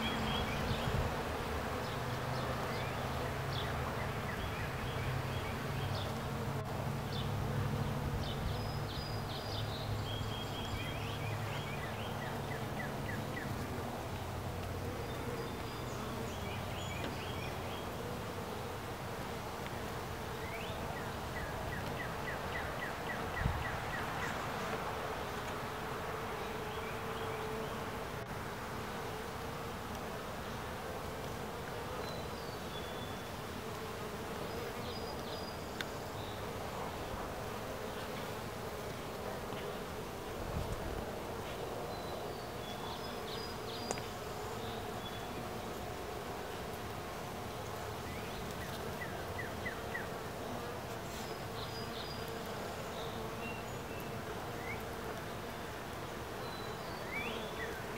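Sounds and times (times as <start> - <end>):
bees buzzing in a hive: 0.0 - 57.9.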